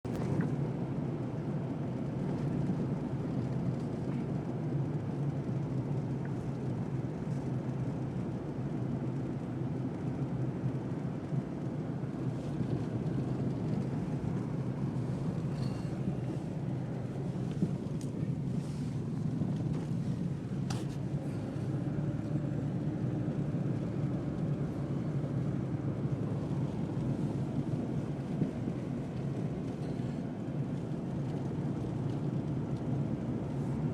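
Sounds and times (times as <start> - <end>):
car engine and tyre drone: 0.1 - 33.9.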